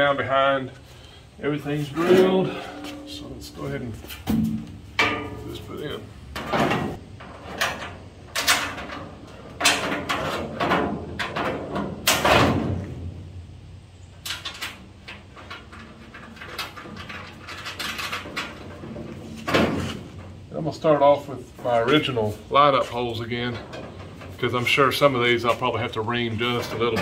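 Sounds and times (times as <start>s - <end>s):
sheet metal panels clunking and scraping: 1.7s - 13.4s, 14.2s - 27.0s.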